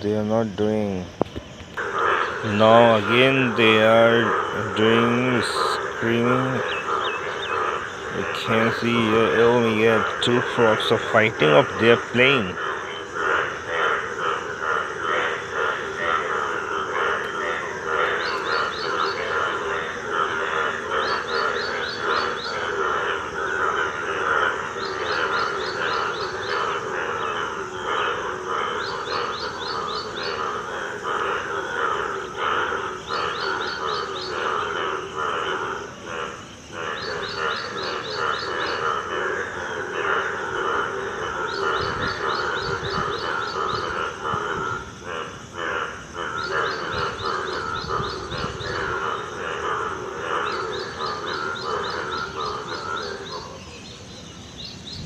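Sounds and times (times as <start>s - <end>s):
frogs croaking chorus: 0.0s - 55.0s.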